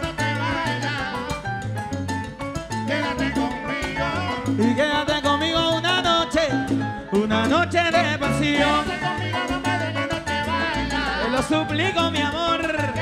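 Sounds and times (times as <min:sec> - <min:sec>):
sung vocals: 0:00.0 - 0:01.6, 0:02.8 - 0:13.0
salsa band playing: 0:00.0 - 0:13.0.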